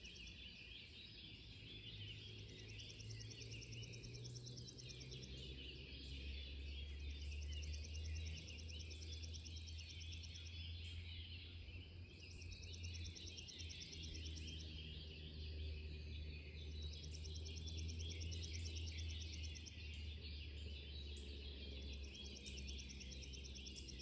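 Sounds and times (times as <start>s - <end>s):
songbirds calling: 0.0s - 24.0s.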